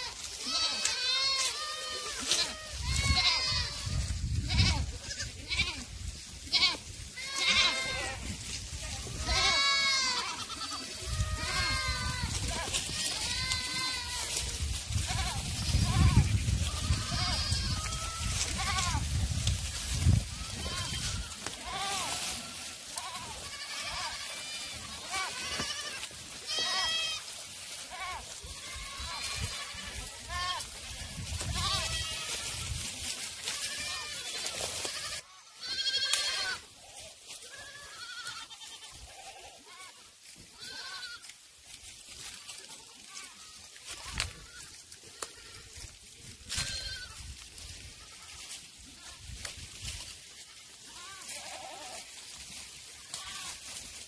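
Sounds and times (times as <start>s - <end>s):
goats bleating: 0.0s - 41.5s, 42.1s - 54.0s.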